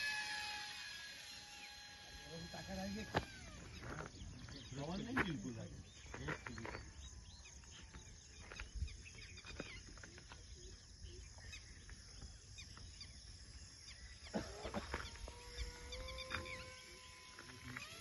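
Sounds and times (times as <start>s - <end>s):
high insect hiss: 0.0s - 18.0s
birds chirping: 1.2s - 18.0s.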